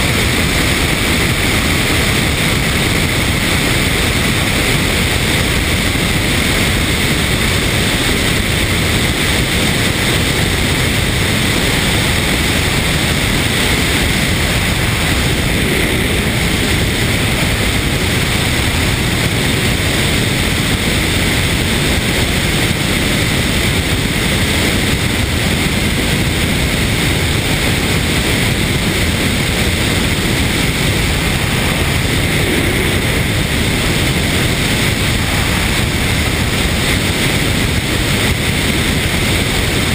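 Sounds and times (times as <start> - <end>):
wind rushing: 0.0 - 22.2, 23.4 - 39.9
aircraft engine and propeller: 0.0 - 39.9.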